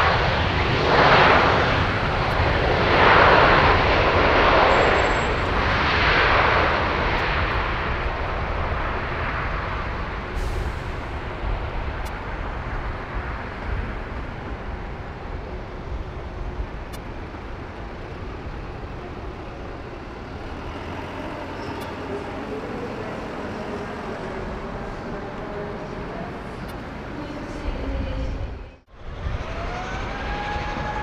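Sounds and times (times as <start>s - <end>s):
airliner engine noise: 0.0s - 31.0s.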